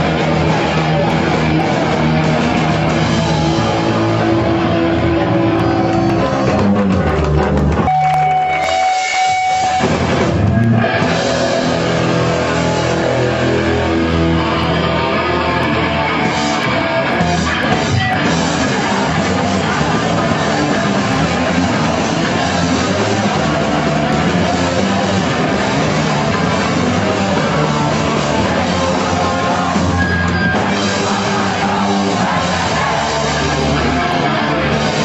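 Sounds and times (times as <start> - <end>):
loud rock music: 0.0 - 35.0.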